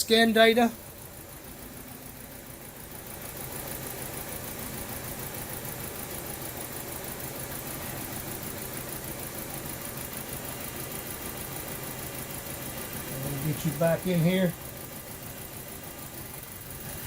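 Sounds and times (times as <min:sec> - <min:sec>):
car engine idling rough: 0:00.0 - 0:17.0.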